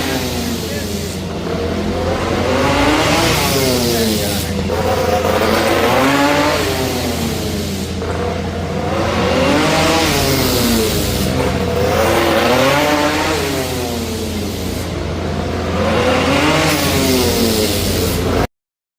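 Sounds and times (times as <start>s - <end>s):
engine revving: 0.0s - 18.5s.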